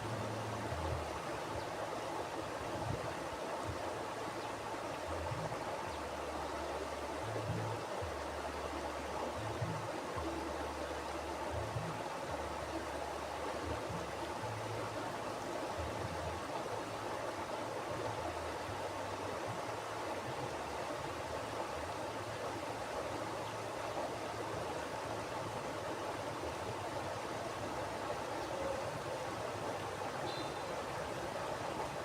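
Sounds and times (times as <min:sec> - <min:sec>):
low water rumble: 0:00.0 - 0:32.0
river water rushing and splashing: 0:00.0 - 0:32.0.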